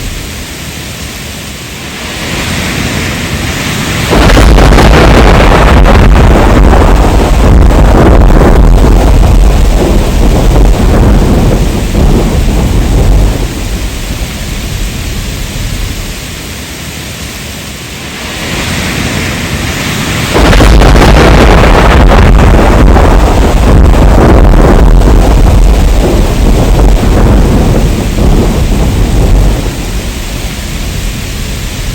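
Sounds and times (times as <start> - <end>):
thunder rumble: 0.0 - 16.7, 17.4 - 31.9
heavy rain: 0.0 - 31.9.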